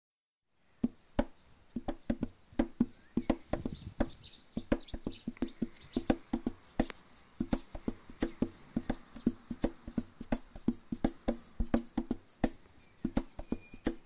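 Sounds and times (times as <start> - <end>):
wood block percussion rhythm: 1.2 - 14.0.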